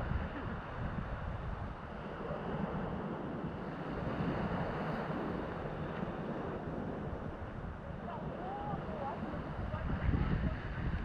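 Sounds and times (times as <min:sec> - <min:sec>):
sea rushing: 0:00.0 - 0:11.0
wind buffeting microphone: 0:00.0 - 0:11.0.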